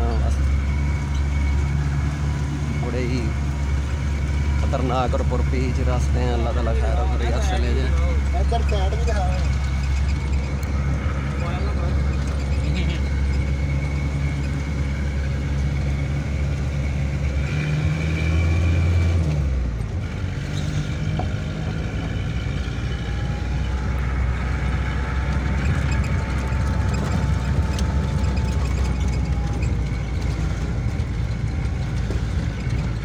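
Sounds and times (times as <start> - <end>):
car engine running: 0.0 - 33.0
road noise inside cab: 0.0 - 33.0.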